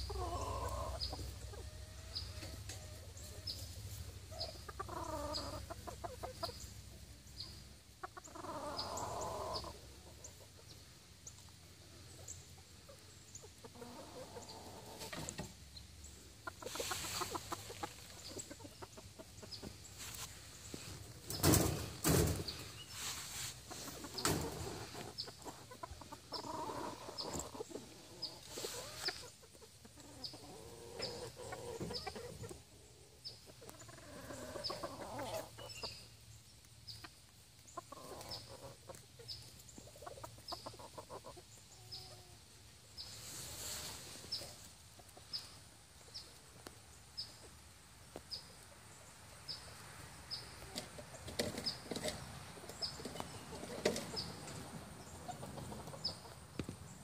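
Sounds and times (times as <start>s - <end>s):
roosters clucking: 0.0s - 57.0s.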